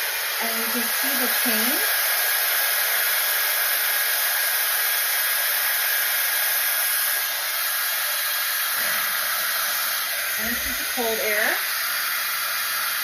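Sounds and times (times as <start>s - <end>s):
hair dryer rushing air: 0.0s - 13.0s.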